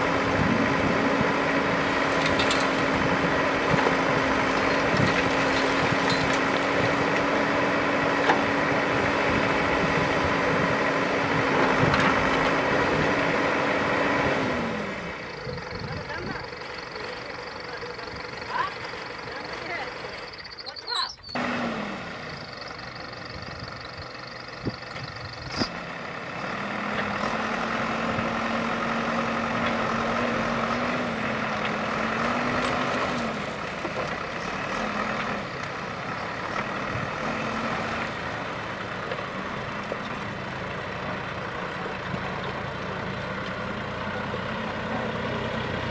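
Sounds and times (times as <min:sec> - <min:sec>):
backhoe diesel engine revving: 0:00.0 - 0:45.9.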